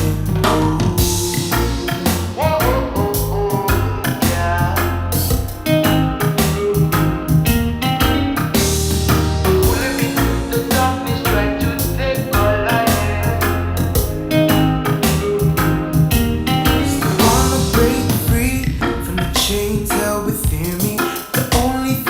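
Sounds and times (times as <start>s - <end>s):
heavy bass: 0.0s - 21.0s
keyboard: 0.0s - 22.0s
steady drum beat: 0.0s - 22.0s.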